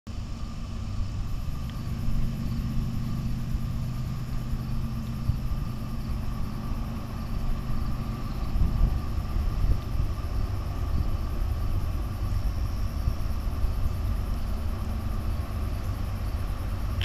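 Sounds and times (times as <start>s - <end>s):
distant diesel locomotive rumble: 0.1s - 17.0s.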